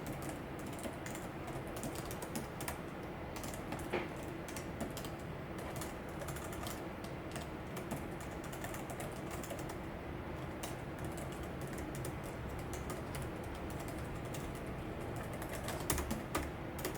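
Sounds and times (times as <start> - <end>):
soft keyboard typing: 0.0 - 16.9.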